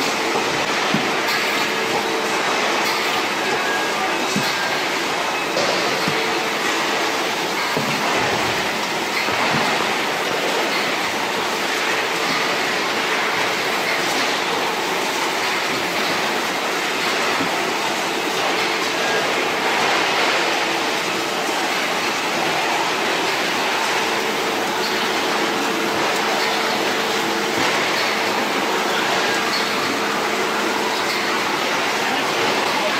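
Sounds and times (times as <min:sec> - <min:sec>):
processing line machinery din: 0:00.0 - 0:32.9.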